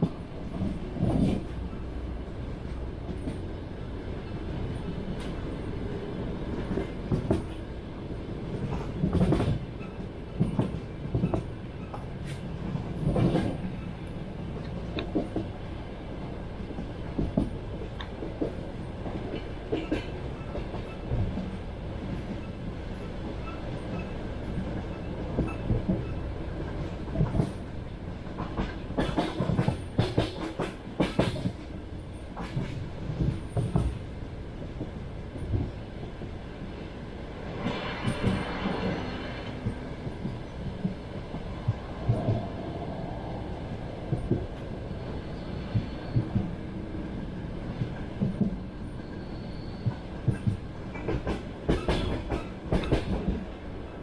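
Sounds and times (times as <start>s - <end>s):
train wheels clickety-clack: 0.0s - 43.1s, 43.8s - 54.0s.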